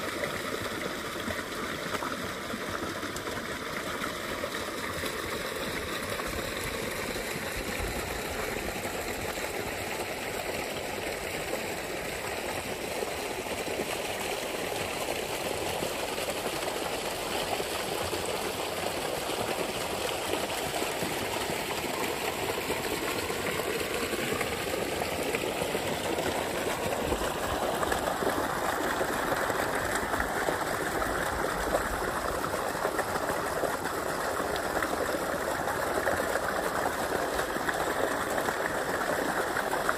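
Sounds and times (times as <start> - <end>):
water gushing into pond: 0.0 - 39.9.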